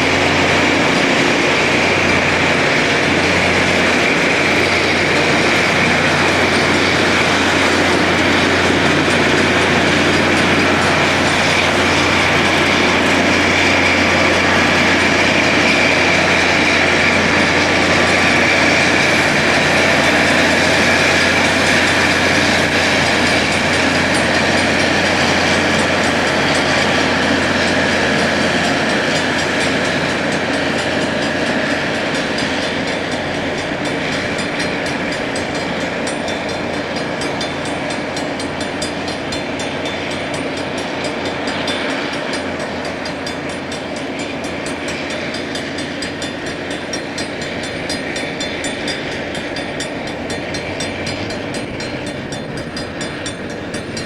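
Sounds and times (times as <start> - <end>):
rail grinder grinding: 0.0 - 54.0.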